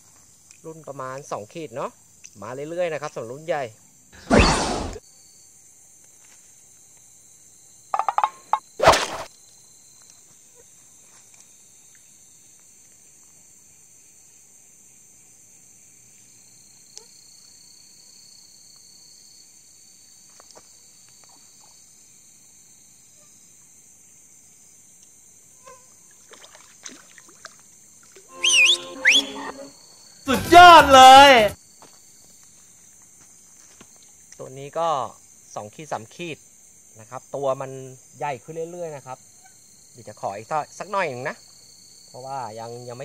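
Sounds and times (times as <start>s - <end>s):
thin insect trill: 0.0s - 30.4s, 31.1s - 43.0s
chorus of night insects: 0.0s - 43.0s.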